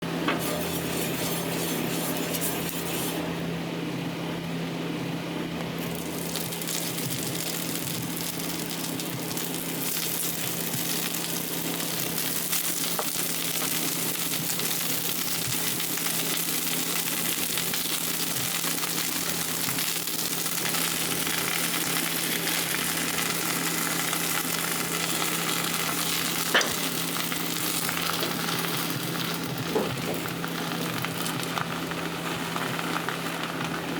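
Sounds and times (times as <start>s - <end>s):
batter sizzling in a pan: 0.4s - 3.3s, 5.8s - 33.9s.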